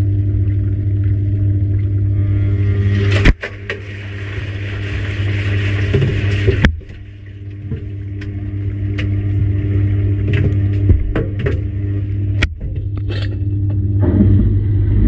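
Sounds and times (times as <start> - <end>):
washing machine motor hum: 0.0 - 15.0
water swishing in drum: 0.0 - 15.0.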